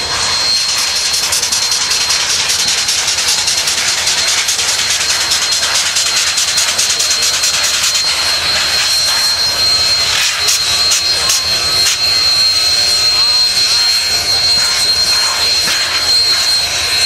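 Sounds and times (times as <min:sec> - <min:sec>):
steam locomotive hissing: 0:00.0 - 0:17.0
thin high tone: 0:00.0 - 0:17.0.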